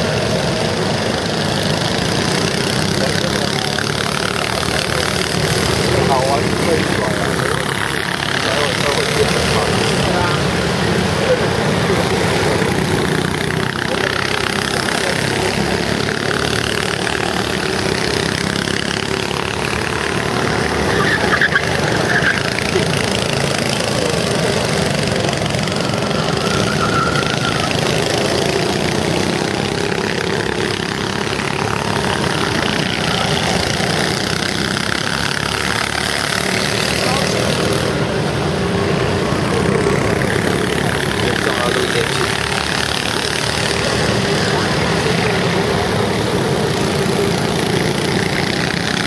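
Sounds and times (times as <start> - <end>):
go-kart engines droning: 0.0 - 49.0.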